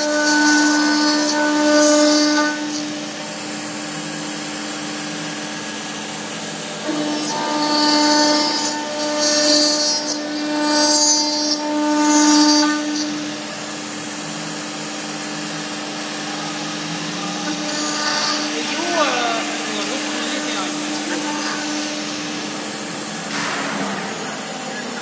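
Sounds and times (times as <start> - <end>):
cnc router spindle whine: 0.0 - 25.0
end mill cutting metal: 0.0 - 25.0.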